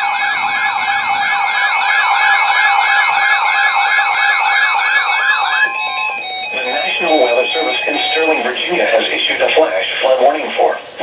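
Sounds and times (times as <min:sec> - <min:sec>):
warbling siren-like alert tone: 0:00.0 - 0:09.2
steady higher tones: 0:00.0 - 0:11.0.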